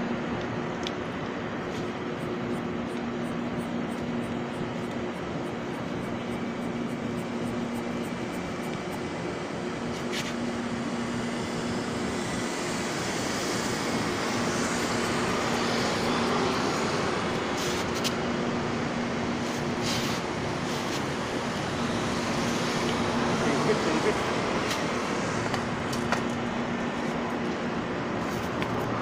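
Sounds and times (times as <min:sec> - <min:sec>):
road traffic noise: 0:00.0 - 0:29.0.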